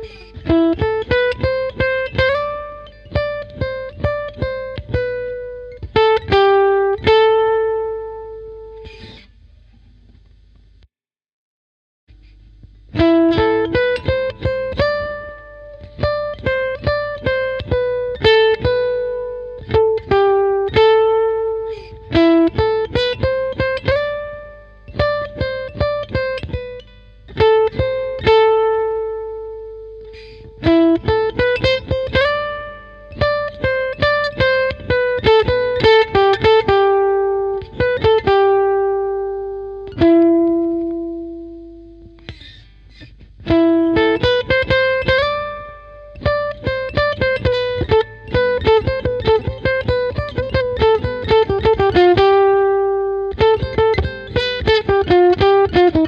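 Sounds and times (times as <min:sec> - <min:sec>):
guitar plucking single-note melody: 0:00.0 - 0:09.4, 0:12.7 - 0:56.0.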